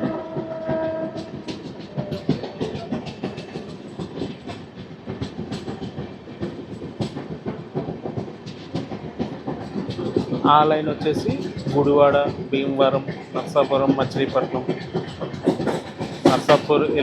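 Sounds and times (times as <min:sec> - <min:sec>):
train rumble with wheel clicks: 0:00.0 - 0:17.0.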